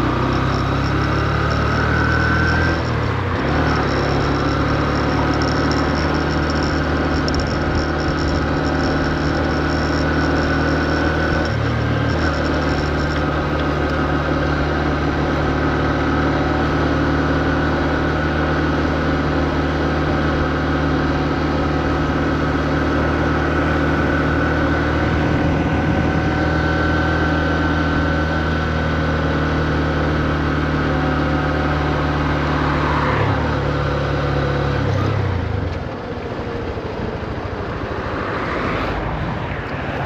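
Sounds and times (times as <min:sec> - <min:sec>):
motorcycle engine at low revs: 0:00.0 - 0:40.0.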